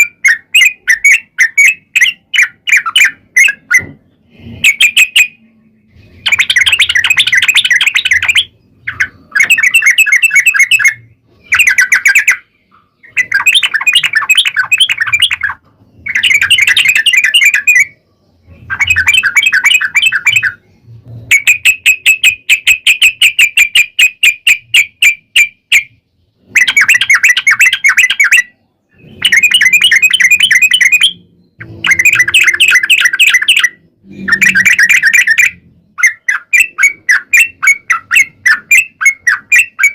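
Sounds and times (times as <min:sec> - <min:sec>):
bird song chattering notes: 0:00.0 - 0:39.9.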